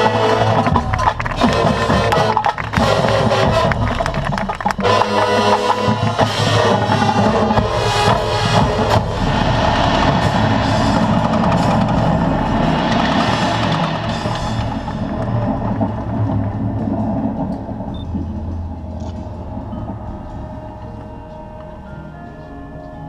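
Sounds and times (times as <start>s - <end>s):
drumline with bass drums: 0.0s - 21.5s
marching band playing: 0.0s - 23.0s
sustained wind chords: 0.0s - 23.0s.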